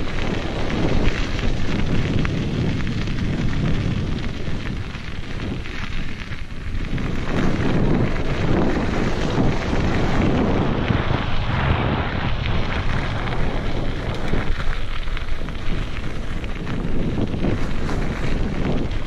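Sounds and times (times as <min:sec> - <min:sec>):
bike tyres crunching on gravel: 0:00.0 - 0:19.0
wind buffeting microphone: 0:00.0 - 0:19.0.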